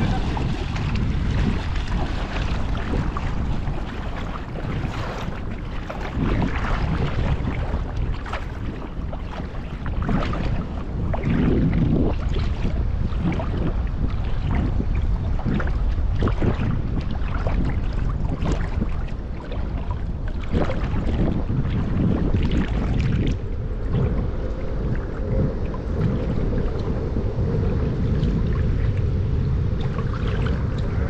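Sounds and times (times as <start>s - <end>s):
storm wind buffeting microphone: 0.0s - 31.0s
water splashing and sloshing: 0.0s - 31.0s.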